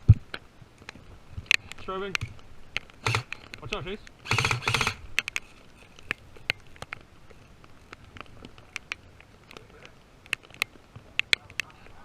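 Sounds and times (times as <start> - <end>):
sharp clicks and snaps: 0.1 - 12.0.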